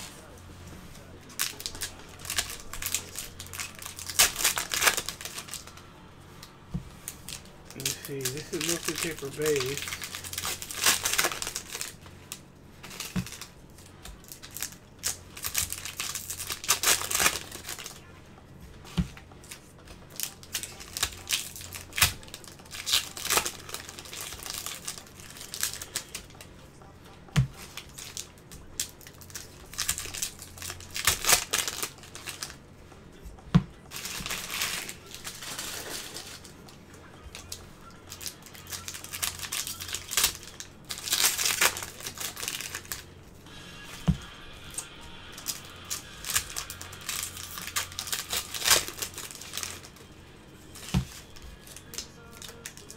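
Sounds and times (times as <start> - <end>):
foil wrappers crinkling: 0.0 - 18.2, 18.8 - 26.5, 27.3 - 32.6, 33.8 - 52.9.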